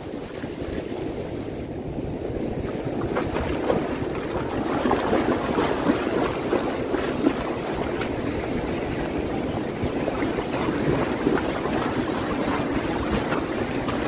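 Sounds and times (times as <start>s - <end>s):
surf washing and fizzing: 0.0s - 14.0s
water splashing close by: 0.0s - 14.0s
wind rumbling on microphone: 0.0s - 14.0s.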